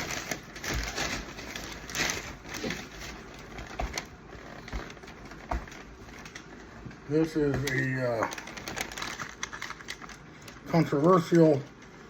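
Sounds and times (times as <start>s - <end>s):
packaging rustling: 0.0s - 11.9s.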